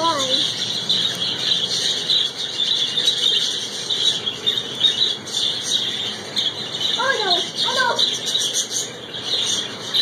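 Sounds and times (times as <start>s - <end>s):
budgerigars chattering and chirping: 0.0s - 10.0s.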